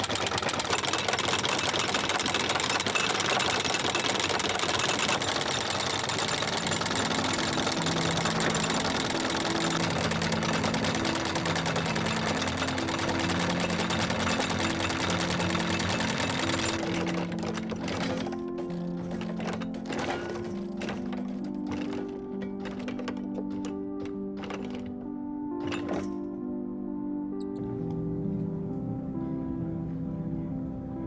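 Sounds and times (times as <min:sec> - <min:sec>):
engine clattering: 0:00.0 - 0:26.6
music with slow held notes: 0:06.1 - 0:31.0.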